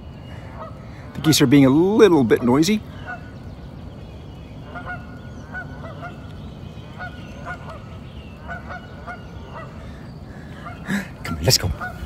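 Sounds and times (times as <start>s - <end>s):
geese honking: 0.0s - 3.4s, 4.6s - 12.0s.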